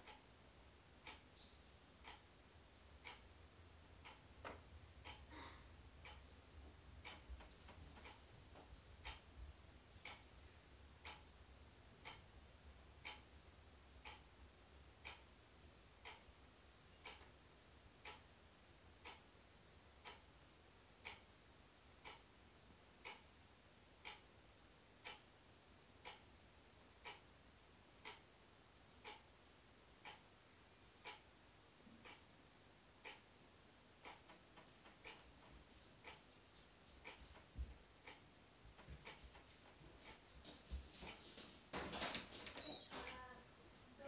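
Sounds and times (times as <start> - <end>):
faint clock ticking: 0.0 - 44.0.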